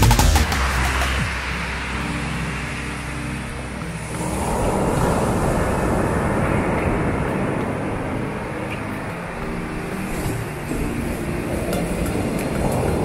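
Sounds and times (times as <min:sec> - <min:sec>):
faint background music: 0:00.0 - 0:13.0
surf breaking on beach: 0:00.4 - 0:13.0.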